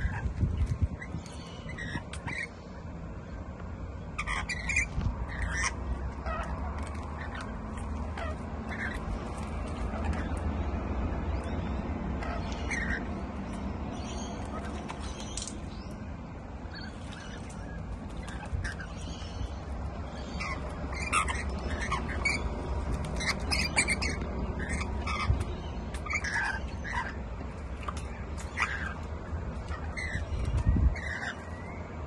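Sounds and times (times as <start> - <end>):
parrots squawking: 0.0 - 2.6, 4.1 - 16.0, 16.7 - 31.8
birds splashing in water: 0.0 - 31.6.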